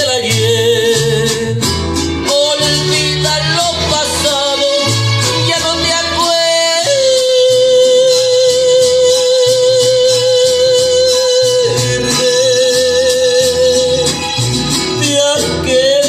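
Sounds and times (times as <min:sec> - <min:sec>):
bass: 0:00.0 - 0:16.0
strummed guitar: 0:00.0 - 0:16.0.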